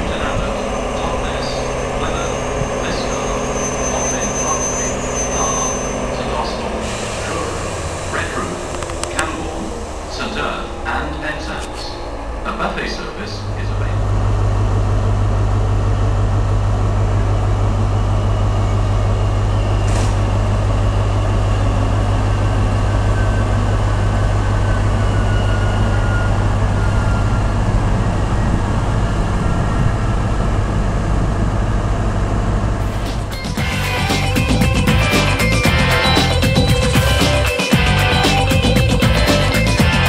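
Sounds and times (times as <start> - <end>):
faint falling whine: 0.0 - 32.8
train diesel engine droning: 0.0 - 40.0.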